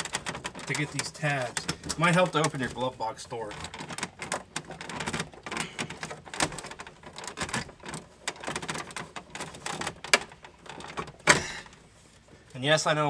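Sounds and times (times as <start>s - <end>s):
plastic and metal clicks and rattles: 0.0s - 11.8s.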